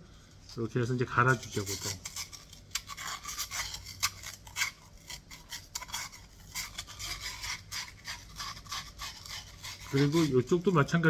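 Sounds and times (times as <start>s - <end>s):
sandpaper rasping on metal pipe: 1.2s - 11.0s.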